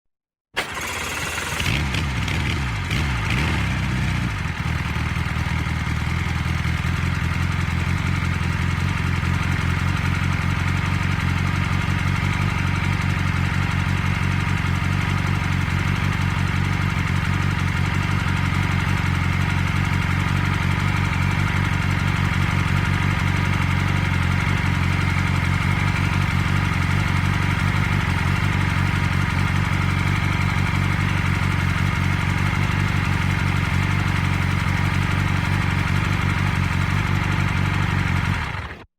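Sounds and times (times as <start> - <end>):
combustion engine idling: 0.6 - 38.9.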